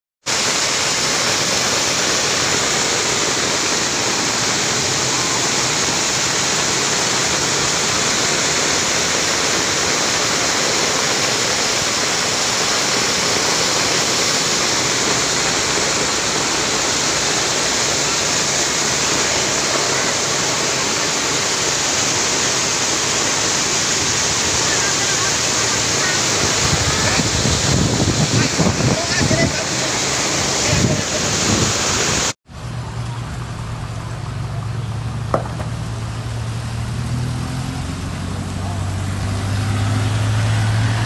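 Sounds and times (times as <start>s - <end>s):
floodwater rushing across road: 0.2s - 41.0s
heavy rain falling: 0.2s - 41.0s.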